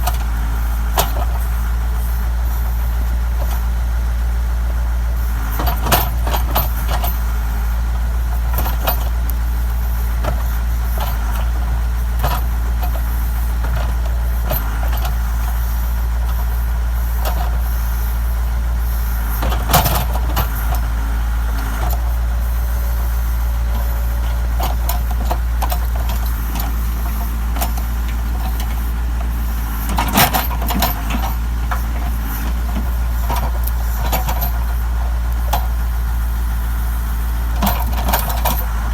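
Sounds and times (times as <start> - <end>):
backhoe diesel engine running: 0.0 - 38.9.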